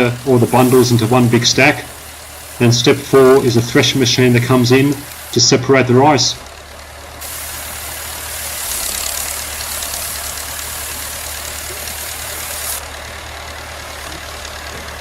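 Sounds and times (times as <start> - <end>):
engine hum: 0.0 - 15.0
threshing drum whirring hiss: 0.0 - 15.0.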